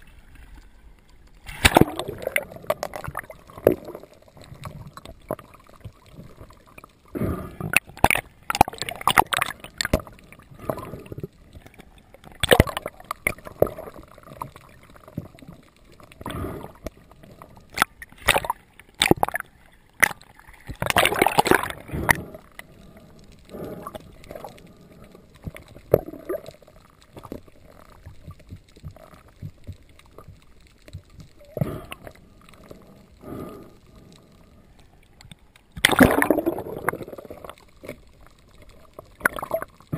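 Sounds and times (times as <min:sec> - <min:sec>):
underwater water rushing: 0:00.0 - 0:39.9.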